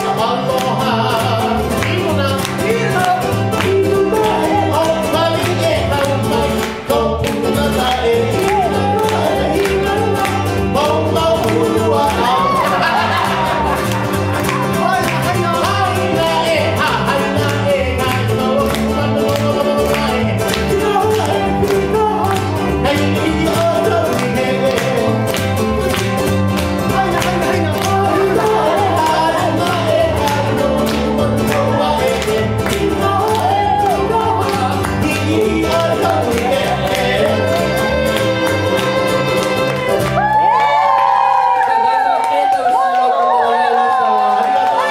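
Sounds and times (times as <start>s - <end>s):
plucked double bass: 0.0s - 40.4s
strummed ukulele: 0.0s - 40.7s
person singing: 0.0s - 44.9s.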